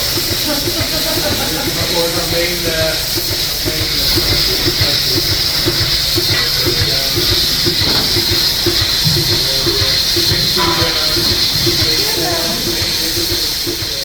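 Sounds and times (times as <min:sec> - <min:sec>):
milking machine pulsing hiss: 0:00.0 - 0:14.0.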